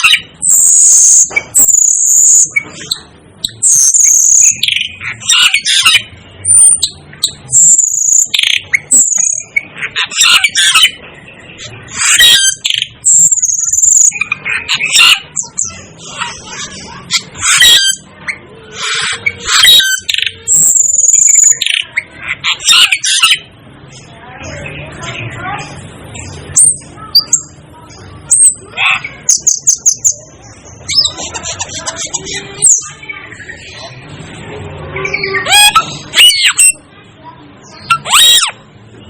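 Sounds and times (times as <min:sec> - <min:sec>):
harsh chattering squawks: 0:00.0 - 0:34.1, 0:34.8 - 0:37.0, 0:37.6 - 0:38.8.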